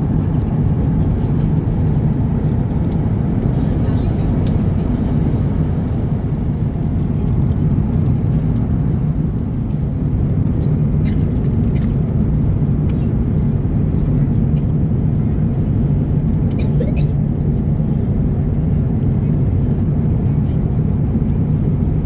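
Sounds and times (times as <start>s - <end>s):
aircraft cabin drone: 0.0s - 22.0s.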